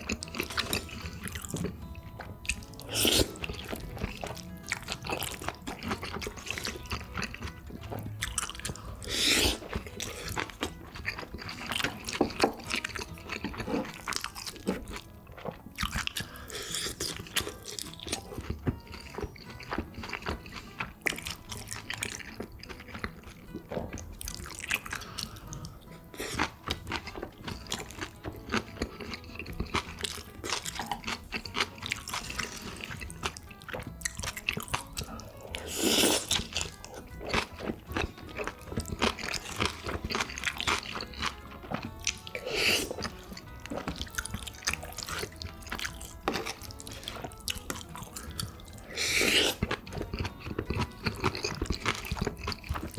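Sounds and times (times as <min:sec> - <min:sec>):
chewing and crunching food: 0:00.0 - 0:52.9
wet mouth noises: 0:00.0 - 0:52.9.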